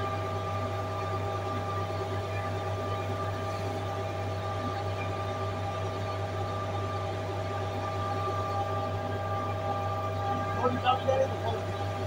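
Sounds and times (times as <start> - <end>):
constant whine: 0.0 - 12.0.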